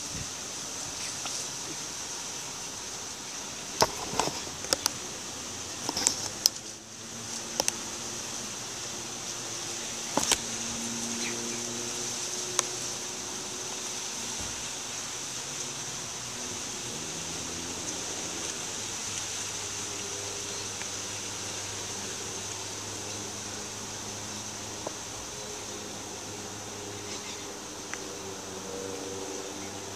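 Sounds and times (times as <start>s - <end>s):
background hiss: 0.0s - 29.9s.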